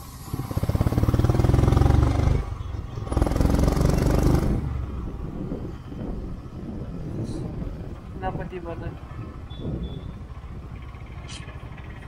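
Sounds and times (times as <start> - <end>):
motorcycle engine pulling hard: 0.0 - 8.1, 8.9 - 12.0.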